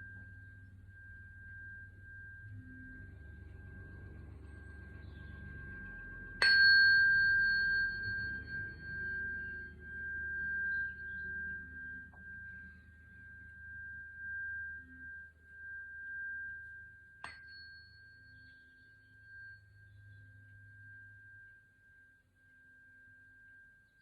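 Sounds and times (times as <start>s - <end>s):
singing bowl ringing: 0.0s - 24.0s.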